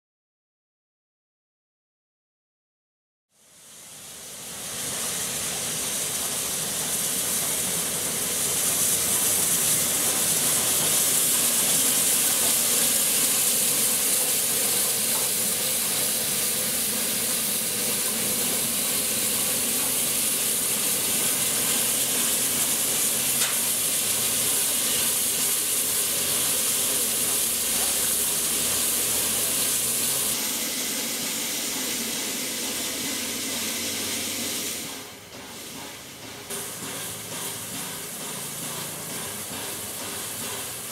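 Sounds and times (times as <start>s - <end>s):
steam locomotive hissing: 3.4s - 40.9s
train coaches rolling by: 3.5s - 40.9s.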